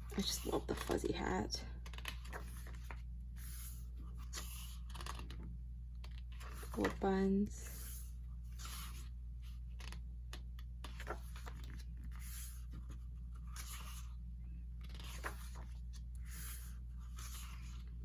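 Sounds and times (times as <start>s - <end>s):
paper pages rustling: 0.2s - 1.1s, 1.8s - 7.0s, 7.7s - 18.0s.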